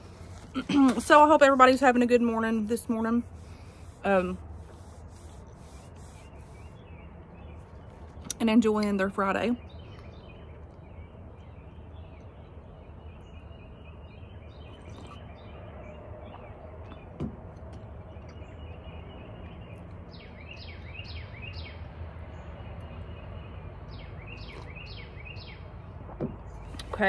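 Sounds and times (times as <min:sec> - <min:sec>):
songbird chirping: 0:00.1 - 0:27.0.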